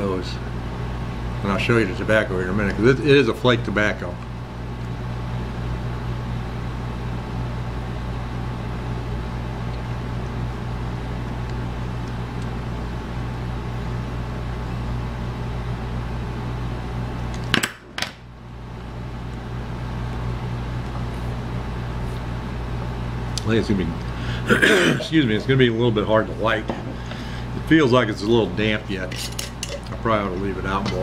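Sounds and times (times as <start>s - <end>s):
low room hum: 0.0s - 31.0s.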